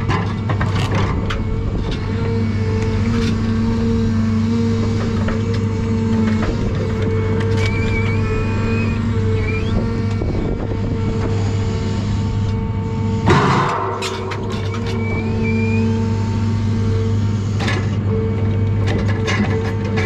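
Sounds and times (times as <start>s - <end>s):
forestry machine running: 0.0s - 20.0s
hydraulic crane whining: 0.0s - 20.0s.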